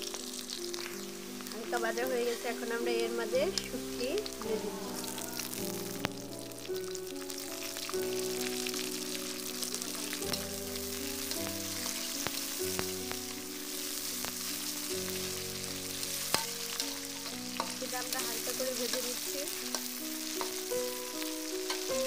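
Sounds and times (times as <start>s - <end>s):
fish sizzling in hot oil: 0.0s - 22.0s
soft background melody: 0.0s - 22.0s.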